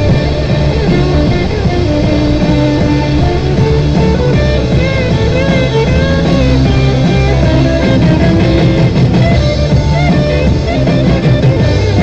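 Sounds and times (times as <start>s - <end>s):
rock song on car radio: 0.0s - 12.0s.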